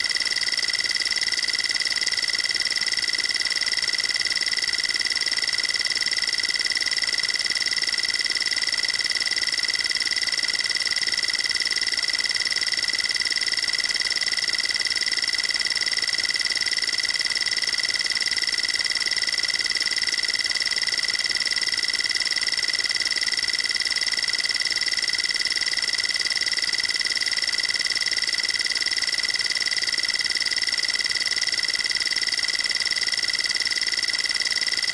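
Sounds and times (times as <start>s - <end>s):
high-pitched buzzy alarm tone: 0.0s - 34.9s.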